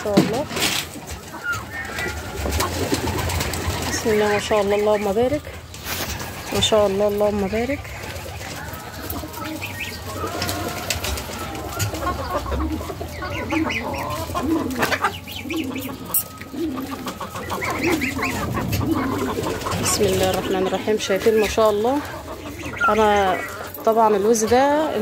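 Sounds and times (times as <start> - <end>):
chicks peeping: 0.0 - 25.0
poultry low calls: 1.1 - 25.0.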